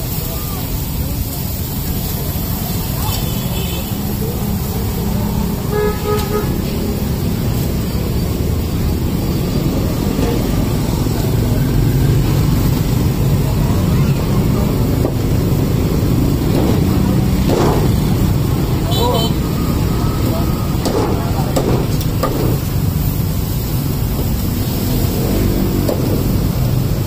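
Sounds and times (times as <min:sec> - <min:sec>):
faint voices: 0:00.0 - 0:27.0
street traffic rumble: 0:00.0 - 0:27.0.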